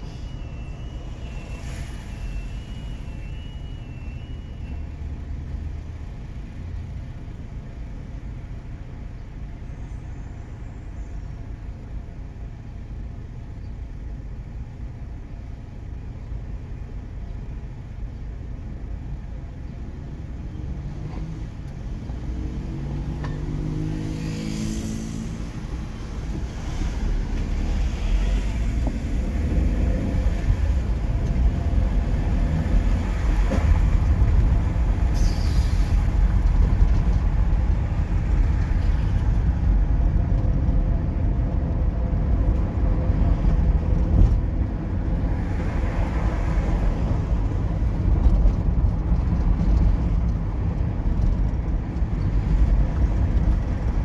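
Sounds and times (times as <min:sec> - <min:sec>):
road rumble: 0:00.0 - 0:54.0
vehicle engine: 0:00.0 - 0:54.0.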